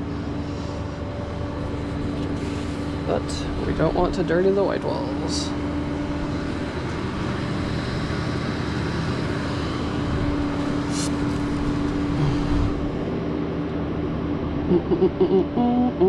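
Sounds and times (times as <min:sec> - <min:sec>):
tow truck engine idling: 0:00.0 - 0:14.2.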